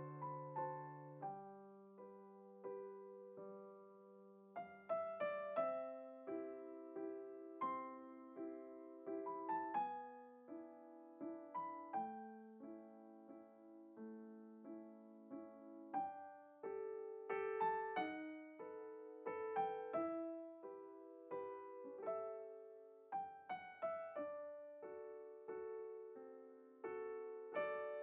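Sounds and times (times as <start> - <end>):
solo piano melody: 0.0 - 28.0.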